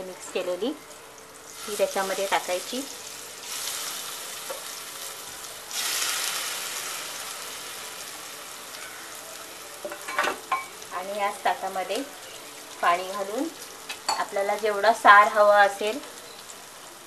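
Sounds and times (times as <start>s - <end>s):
fish sizzling in hot oil: 0.1s - 17.0s.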